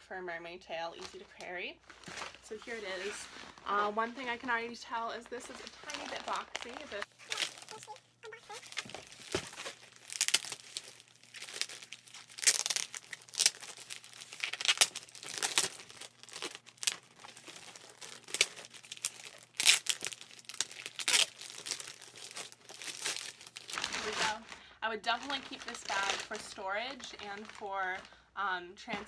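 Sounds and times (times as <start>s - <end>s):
plastic bag crinkling: 1.0s - 29.0s.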